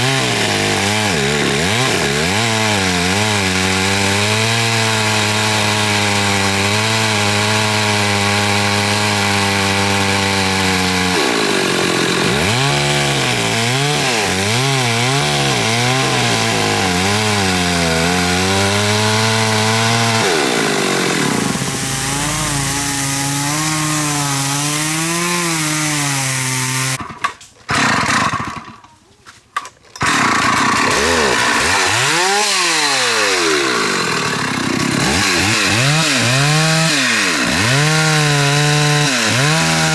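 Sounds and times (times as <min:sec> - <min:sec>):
chainsaw cutting wood: 0:00.0 - 0:28.8, 0:30.0 - 0:39.9.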